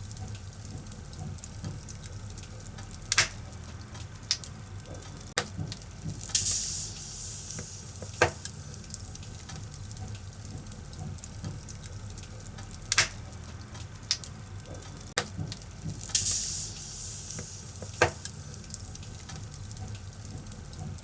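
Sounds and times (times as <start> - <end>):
fire hissing: 0.0 - 14.7, 15.4 - 21.0
fire crackling and popping: 0.0 - 21.0.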